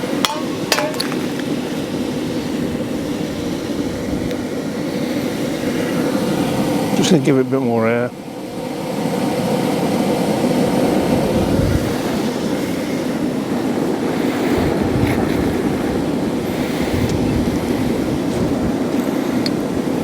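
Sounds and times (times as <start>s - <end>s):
blower fan air rushing: 0.0s - 20.0s.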